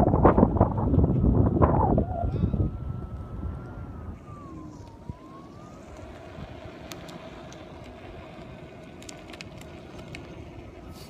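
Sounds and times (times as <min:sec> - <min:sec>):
low rumble: 0:00.0 - 0:11.0
electric motor whining: 0:00.2 - 0:11.0.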